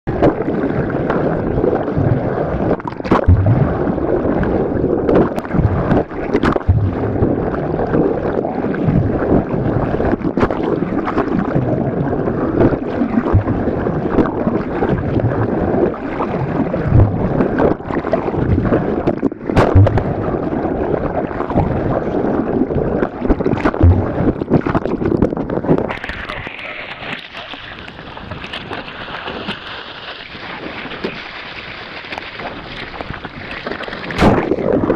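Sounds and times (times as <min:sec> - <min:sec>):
water rushing underwater: 0:00.1 - 0:34.9
wind on microphone: 0:00.1 - 0:34.9.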